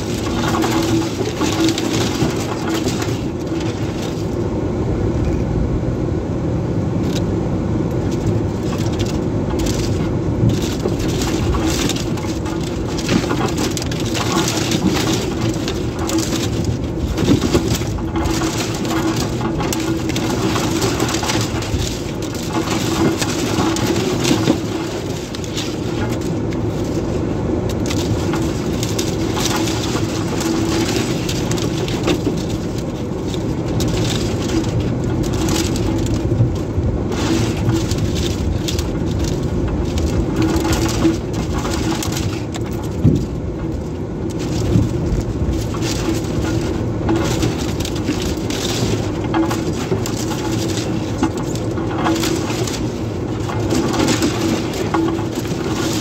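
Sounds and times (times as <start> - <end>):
tyres crunching through snow: 0.0 - 4.4, 8.0 - 56.0
engine drone inside cab: 0.0 - 56.0.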